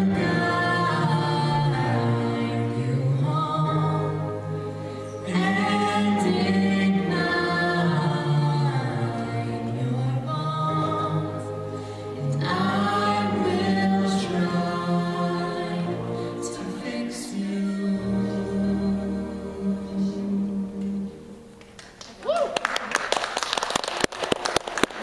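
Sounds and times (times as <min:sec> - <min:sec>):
choir singing in parts: 0:00.0 - 0:21.6.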